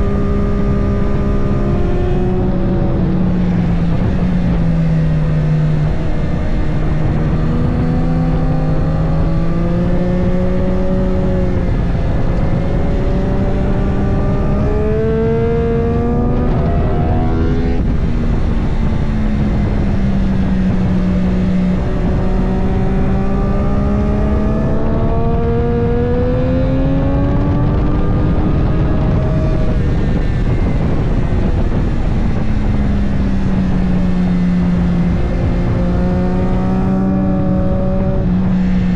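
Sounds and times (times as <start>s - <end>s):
race motorcycle engine revving: 0.0s - 38.9s.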